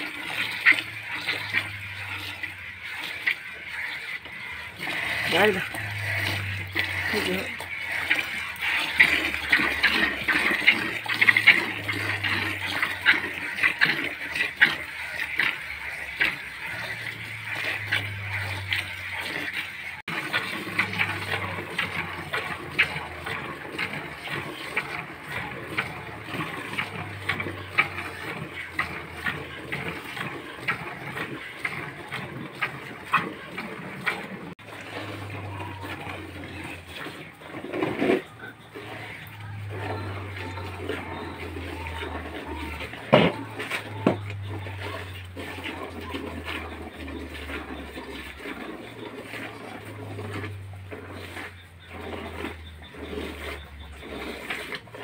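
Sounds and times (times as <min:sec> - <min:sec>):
milk squirting into plastic bucket: 0:00.0 - 0:55.0.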